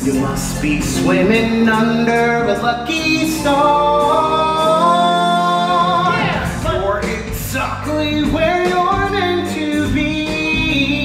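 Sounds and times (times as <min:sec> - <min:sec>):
man singing: 0:00.0 - 0:11.0
recorded band backing track: 0:00.0 - 0:11.0.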